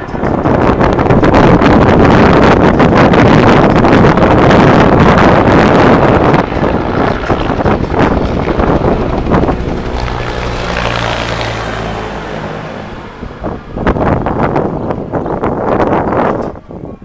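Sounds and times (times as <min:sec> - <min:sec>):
aircraft engine drone: 0:00.0 - 0:17.0
wind buffeting microphone: 0:00.0 - 0:17.0.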